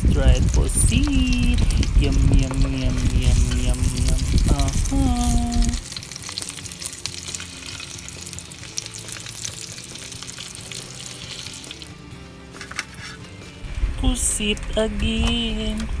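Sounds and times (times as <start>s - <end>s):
fish and shrimp frying in oil: 0.0s - 13.2s.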